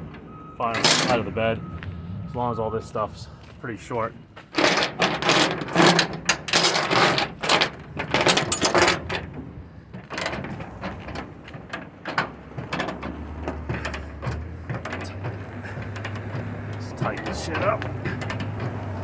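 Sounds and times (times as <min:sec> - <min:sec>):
metal chains clinking and rattling: 0:00.7 - 0:01.4, 0:04.4 - 0:19.0.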